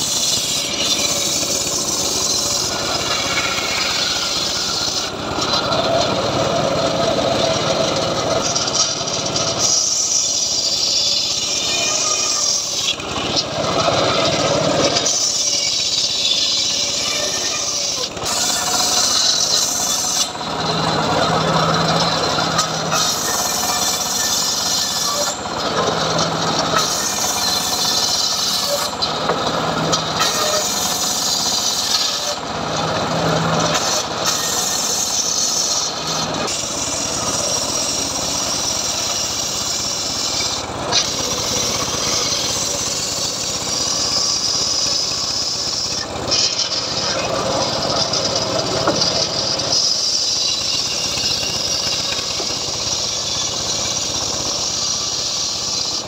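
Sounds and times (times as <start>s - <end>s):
circular saw ripping wood: 0.0s - 56.0s.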